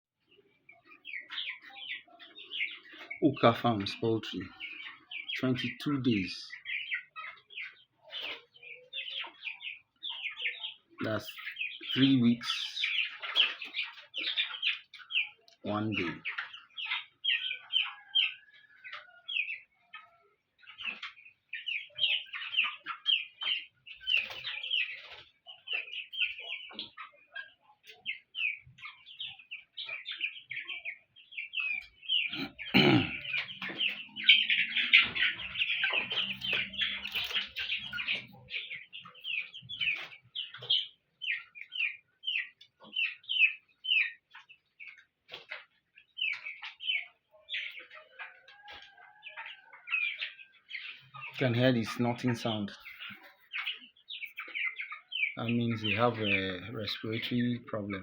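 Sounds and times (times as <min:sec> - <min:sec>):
chickens peeping: 0:00.2 - 0:58.0.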